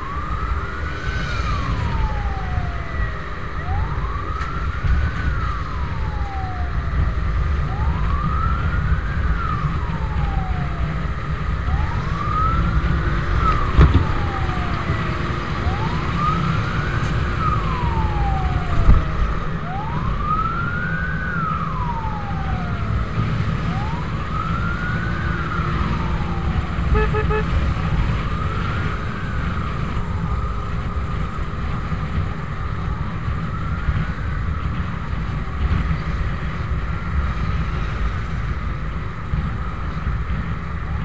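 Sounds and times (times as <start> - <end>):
fire truck siren wailing: 0.0 - 41.0
wind and road noise rumble: 0.0 - 41.0.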